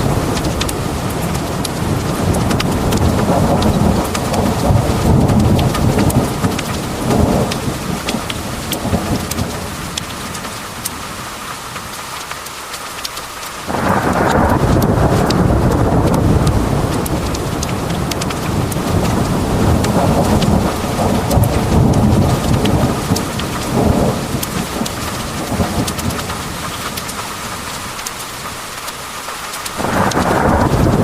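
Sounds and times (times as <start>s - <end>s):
rolling thunder: 0.0s - 10.4s, 13.7s - 27.2s, 29.8s - 31.0s
heavy rain pouring: 0.0s - 31.0s.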